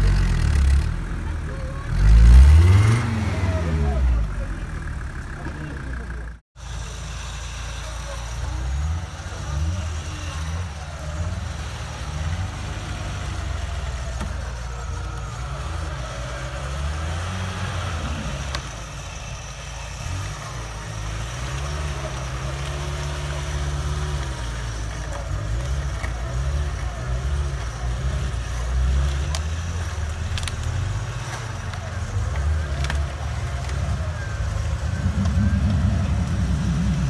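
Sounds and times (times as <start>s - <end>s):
car engine revving under load: 0.0s - 37.0s.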